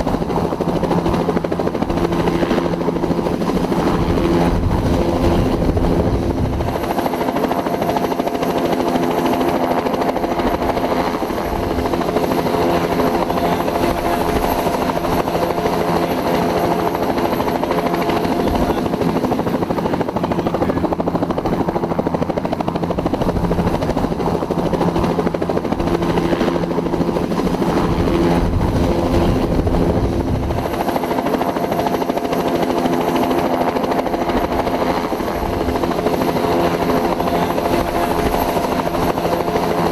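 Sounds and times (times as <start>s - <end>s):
helicopter rotor throb: 0.0s - 39.9s
helicopter turbine whine: 0.0s - 39.9s.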